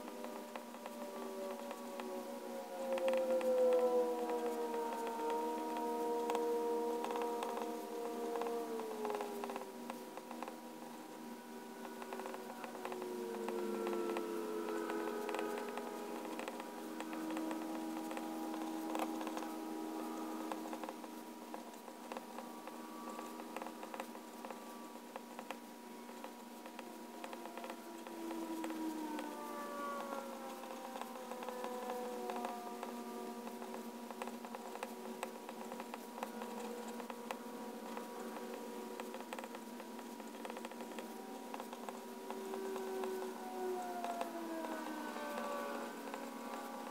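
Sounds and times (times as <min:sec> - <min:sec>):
steady hum: 0:00.0 - 0:46.9
pen nib scratching on paper: 0:02.9 - 0:11.0, 0:11.8 - 0:29.3, 0:30.3 - 0:43.3.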